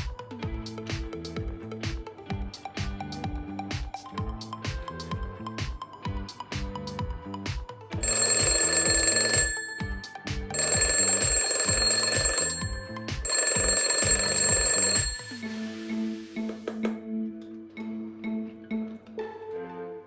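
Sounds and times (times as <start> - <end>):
background music with beat: 0.0 - 19.5.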